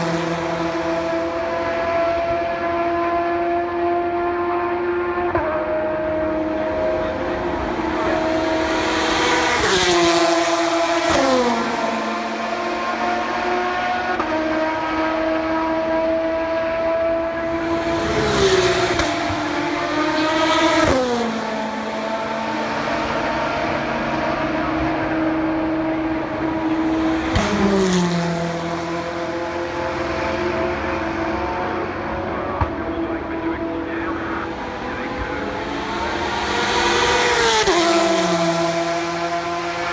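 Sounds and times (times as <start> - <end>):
distant car engines humming: 0.0 - 39.9
race cars passing by: 0.0 - 39.9.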